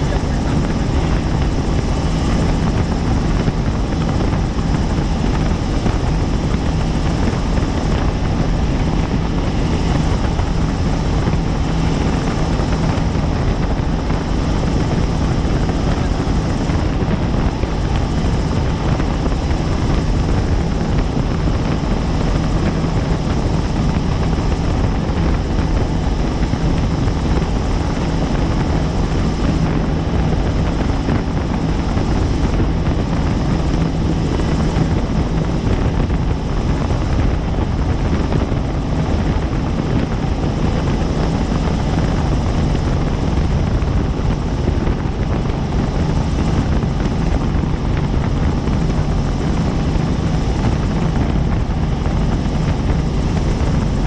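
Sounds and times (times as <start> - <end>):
helicopter rotor and engine drone: 0.0 - 54.0.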